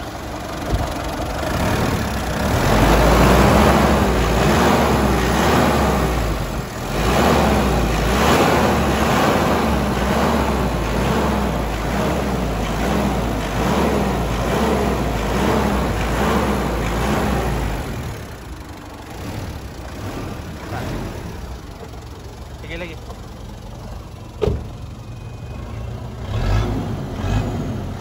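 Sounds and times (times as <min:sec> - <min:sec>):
pickup engine running: 0:00.0 - 0:28.0.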